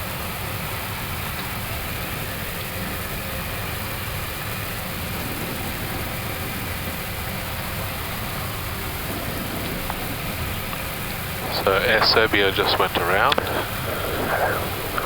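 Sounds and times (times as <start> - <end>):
aircraft engines idling hum and hiss: 0.0 - 15.0.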